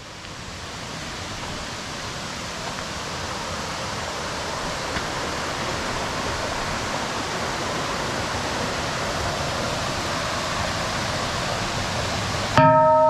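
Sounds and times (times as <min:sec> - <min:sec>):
flowing water rushing: 0:00.0 - 0:12.7.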